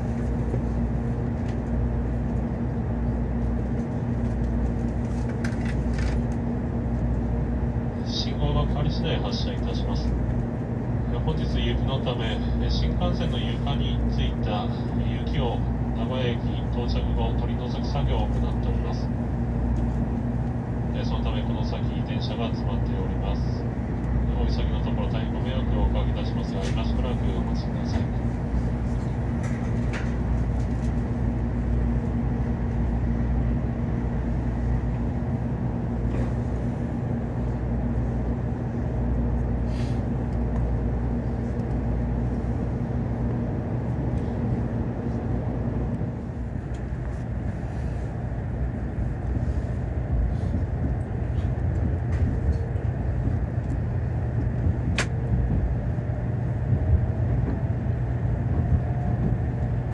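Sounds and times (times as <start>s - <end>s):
train cabin rumble and hum: 0.0s - 59.9s.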